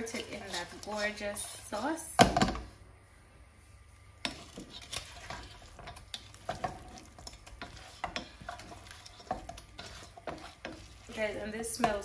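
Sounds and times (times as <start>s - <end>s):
utensil scraping and knocking pan: 0.0s - 2.6s, 4.2s - 12.0s.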